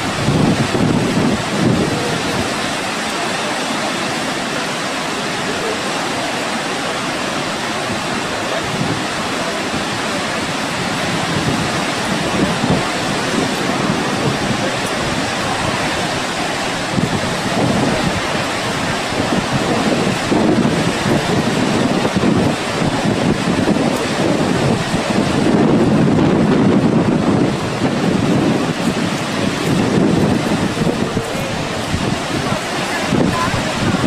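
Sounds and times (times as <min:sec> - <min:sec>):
wind buffeting microphone: 0:00.0 - 0:05.8, 0:06.9 - 0:34.0
waterfall rushing: 0:00.0 - 0:34.0.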